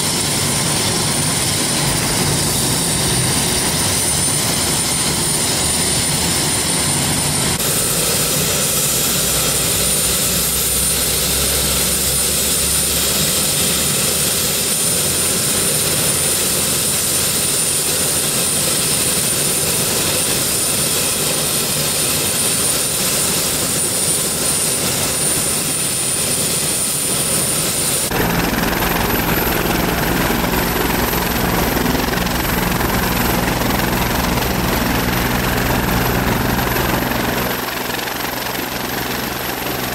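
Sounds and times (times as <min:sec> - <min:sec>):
helicopter turbine roar: 0:00.0 - 0:39.9
high turbine whine: 0:00.0 - 0:39.9.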